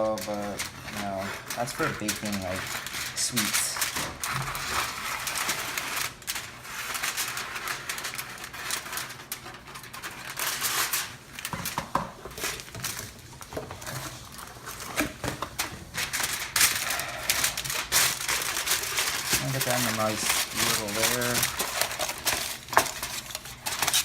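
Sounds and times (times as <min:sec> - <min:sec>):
aluminum foil crinkling: 0:00.0 - 0:24.0.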